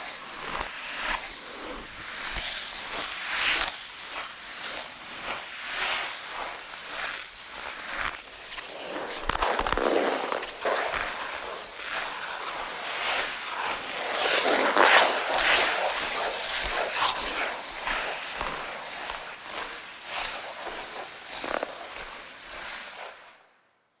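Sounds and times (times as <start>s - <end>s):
ice skates scraping on ice: 0.0s - 23.5s.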